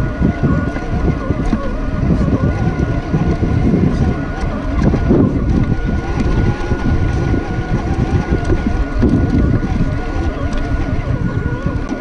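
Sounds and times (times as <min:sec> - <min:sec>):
electric motor whine: 0:00.0 - 0:12.0
jostling on microphone: 0:00.0 - 0:12.0
wind noise on microphone: 0:00.0 - 0:12.0.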